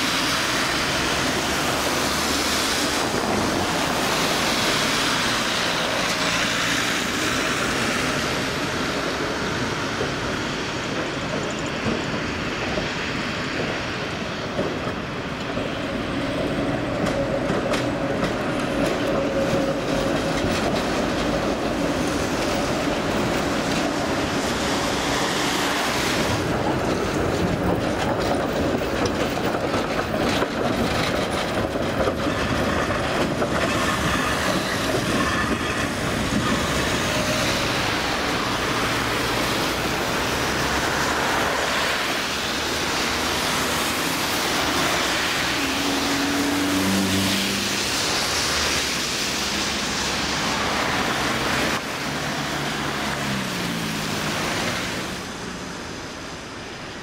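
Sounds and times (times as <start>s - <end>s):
cars passing on wet road: 0.0s - 57.0s
tram wheels clattering over rails: 0.0s - 57.0s.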